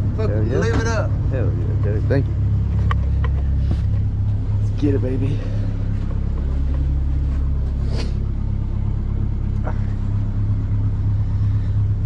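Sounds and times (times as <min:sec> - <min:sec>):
welding machine engine rumbling: 0:00.0 - 0:12.0.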